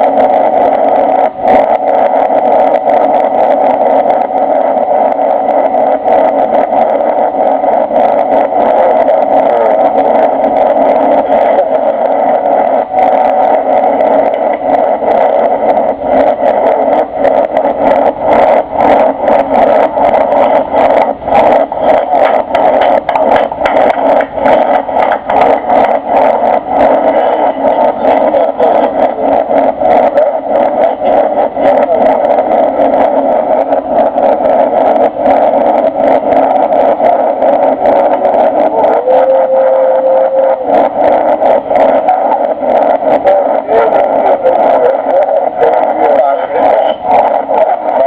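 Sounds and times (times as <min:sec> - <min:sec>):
engine and airflow rush: 0:00.0 - 0:48.0.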